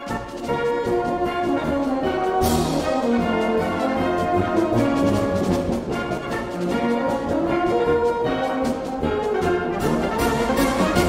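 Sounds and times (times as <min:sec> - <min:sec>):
brass-led orchestral music: 0:00.0 - 0:11.0.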